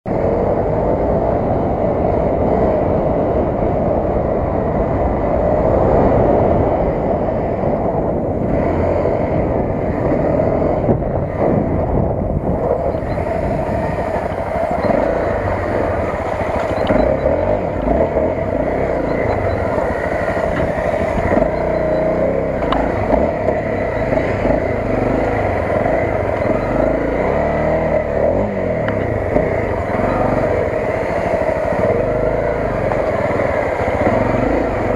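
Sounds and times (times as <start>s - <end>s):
dirt bike engine revving: 4.7s - 34.9s.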